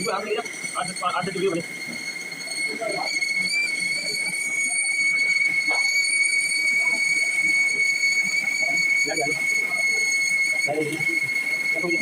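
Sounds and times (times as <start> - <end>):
metal lathe squealing: 0.0 - 12.0.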